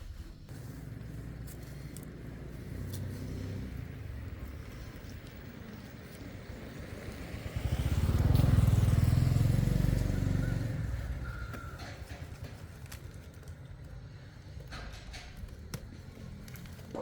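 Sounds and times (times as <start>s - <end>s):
motor vehicle passing by: 0.5s - 17.0s.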